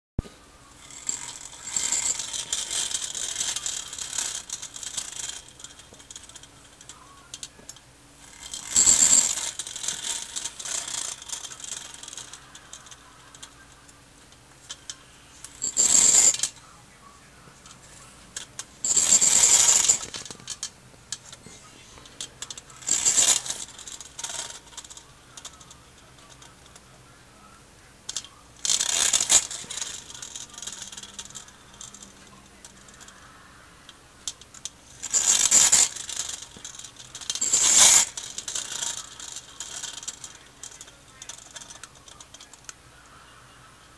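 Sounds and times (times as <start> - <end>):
toy helicopter whirring and rattling: 0.7 - 14.0, 14.6 - 16.6, 17.6 - 26.9, 28.1 - 42.8.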